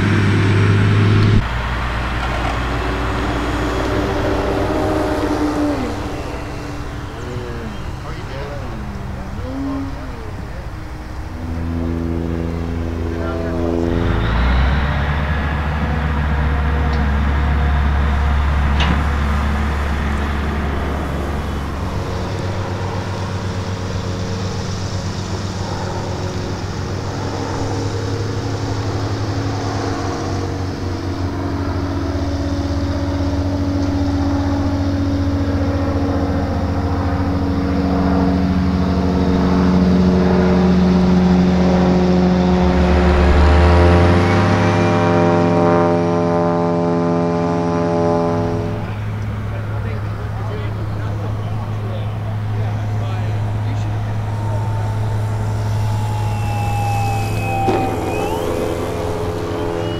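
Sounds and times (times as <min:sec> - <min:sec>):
propeller plane droning overhead: 0:00.0 - 0:59.9.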